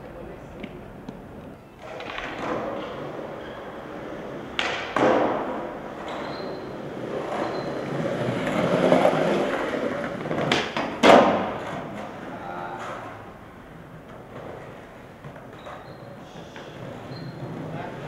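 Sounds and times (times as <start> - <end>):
skateboard clacks: 0.0 - 18.0
skateboard wheels rolling: 0.0 - 18.0.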